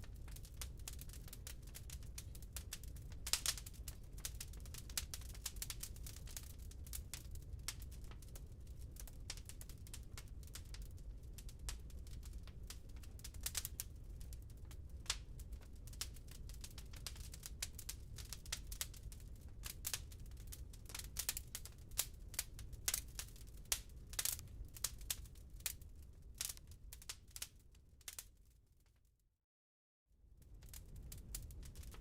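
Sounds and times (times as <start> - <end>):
wood fire crackling: 0.0 - 28.5, 30.4 - 32.0
low rumble of flames: 0.0 - 28.8, 30.2 - 32.0.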